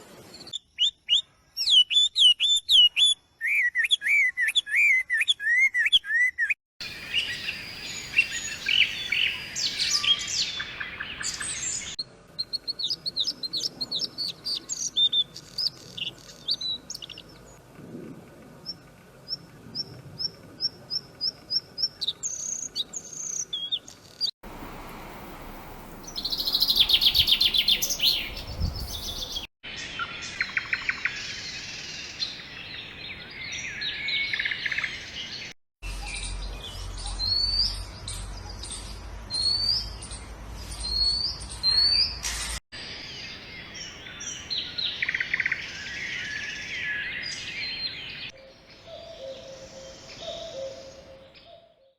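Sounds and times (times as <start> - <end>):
birds singing and chirping: 0.3 - 17.6, 18.6 - 24.3, 25.8 - 42.2, 43.0 - 51.9.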